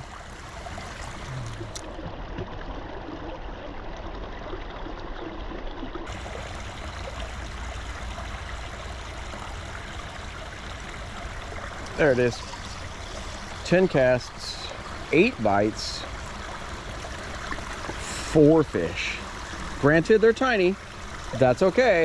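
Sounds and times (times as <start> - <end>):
creek water trickling: 0.0 - 22.0.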